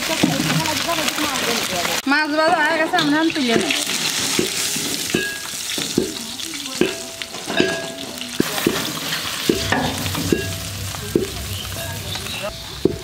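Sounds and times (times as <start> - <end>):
fish sizzling in hot oil: 0.0 - 13.0
metal ladle scraping a pan: 2.6 - 13.0.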